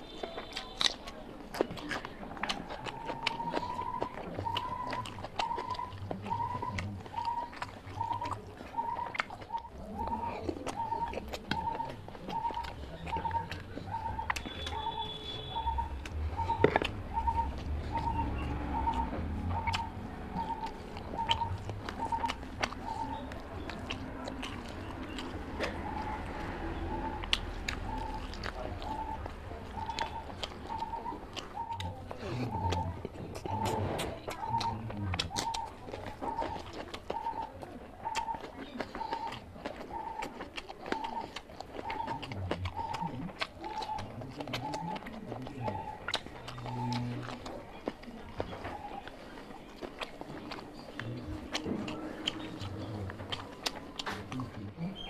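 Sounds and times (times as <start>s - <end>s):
chewing: 0.0s - 55.0s
eating sounds: 0.0s - 55.0s
bird calling: 2.8s - 47.3s, 48.4s - 55.0s.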